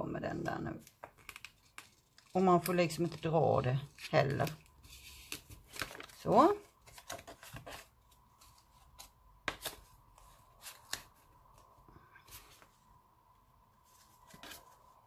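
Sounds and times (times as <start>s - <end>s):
paper rustling: 0.8s - 12.8s, 13.8s - 15.0s.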